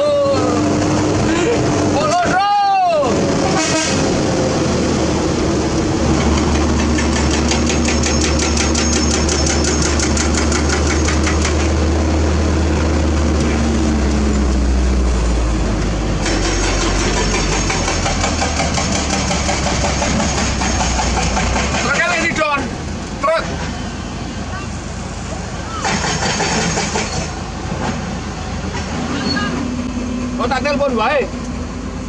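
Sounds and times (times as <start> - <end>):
diesel truck engine drone: 0.0 - 32.0.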